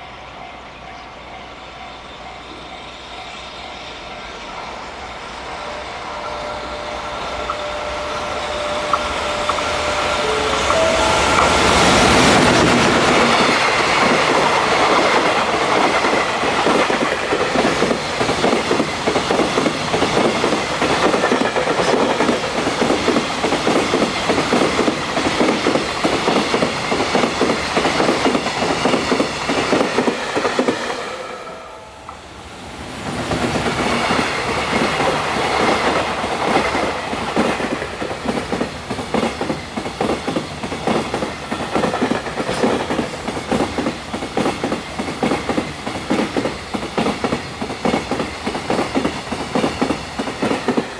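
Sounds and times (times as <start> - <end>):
electric locomotive passing: 0.0 - 50.9.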